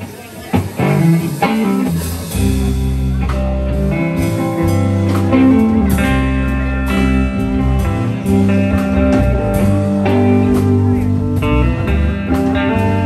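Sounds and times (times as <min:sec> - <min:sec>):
bass guitar: 0:00.0 - 0:13.0
electric guitar: 0:00.0 - 0:13.0.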